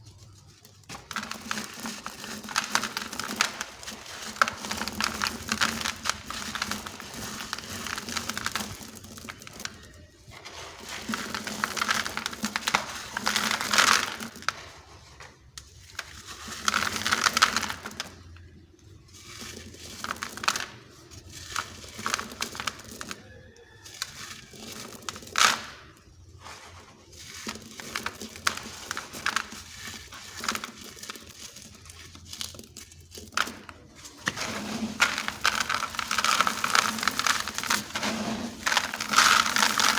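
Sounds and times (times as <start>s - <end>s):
cement blocks crumbling and crunching: 0.0s - 39.9s.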